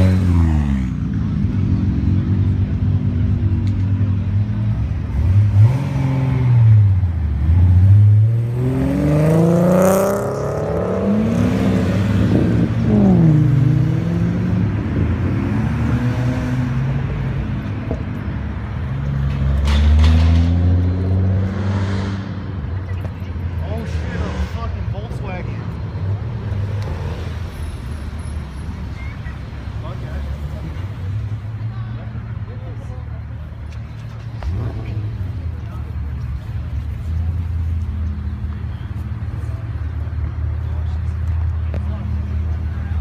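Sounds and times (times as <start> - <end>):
car engines revving past: 0.0 - 32.4, 33.2 - 43.0.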